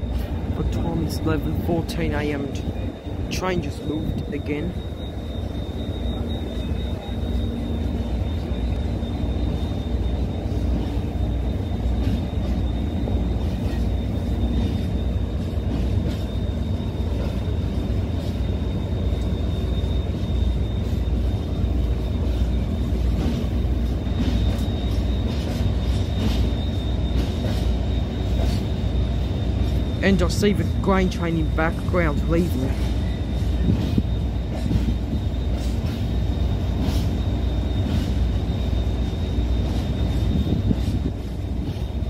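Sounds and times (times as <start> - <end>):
faint high whine: 0.0 - 42.0
train wagons rumbling: 0.0 - 42.0.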